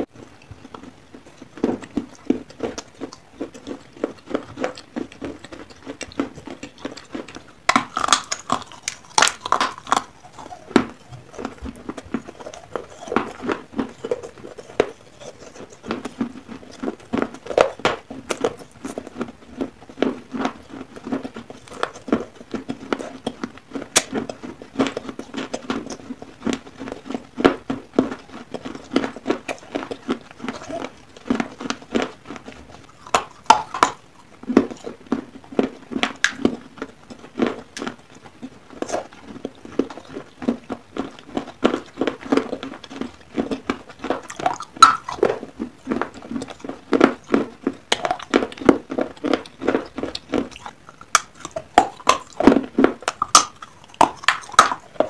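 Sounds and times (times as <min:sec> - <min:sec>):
crisp chewing crunches: 0:00.0 - 0:55.0
wet mouth sounds: 0:00.0 - 0:55.0.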